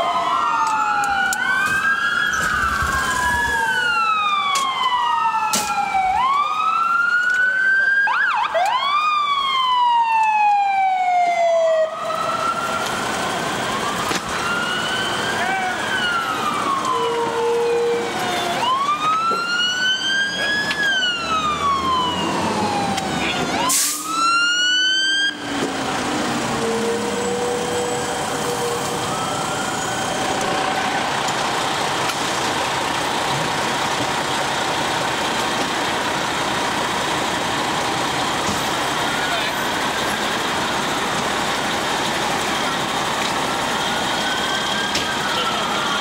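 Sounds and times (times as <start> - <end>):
fire engine siren wailing: 0.0 - 46.0
vehicle and road noise: 0.0 - 46.0.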